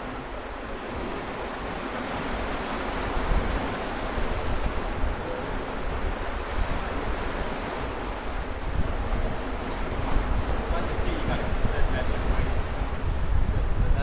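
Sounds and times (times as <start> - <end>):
surf washing on rocks: 0.0 - 14.0
wind on microphone: 0.0 - 14.0.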